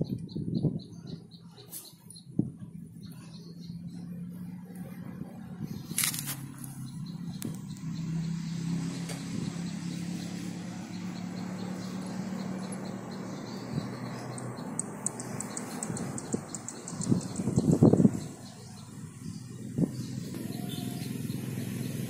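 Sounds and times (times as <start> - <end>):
bird chirping: 0.0 - 4.6, 5.2 - 22.0.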